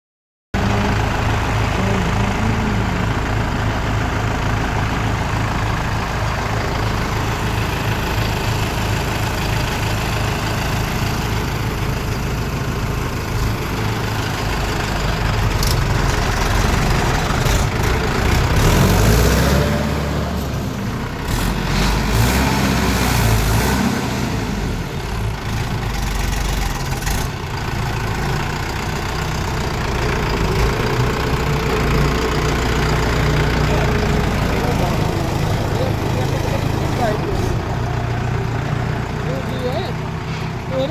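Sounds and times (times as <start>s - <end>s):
tractor diesel engine running: 0.5s - 40.9s.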